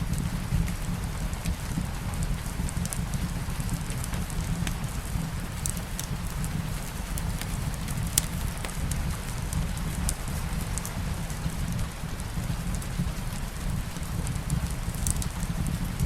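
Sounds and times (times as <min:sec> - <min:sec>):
soft rain: 0:00.0 - 0:16.0
wood fire crackling: 0:00.0 - 0:16.0.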